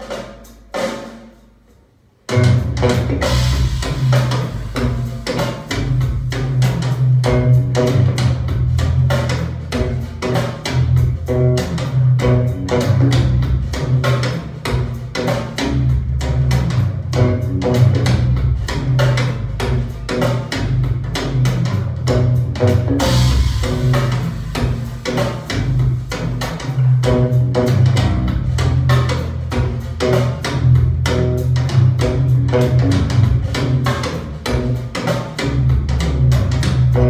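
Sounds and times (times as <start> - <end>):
drum kit and guitar music: 0.0 - 37.0.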